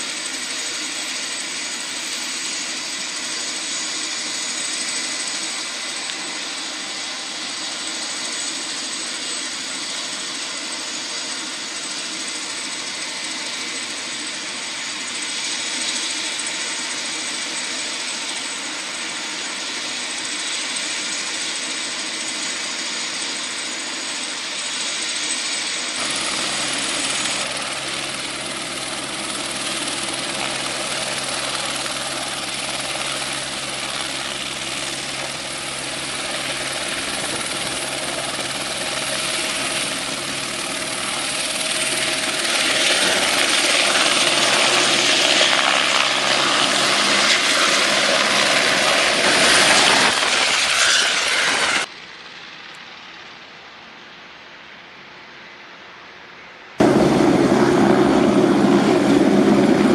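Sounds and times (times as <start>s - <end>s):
helicopter rotor turning: 0.0s - 53.4s, 56.8s - 59.9s
helicopter turbine engine whining: 0.0s - 54.7s, 56.8s - 59.9s.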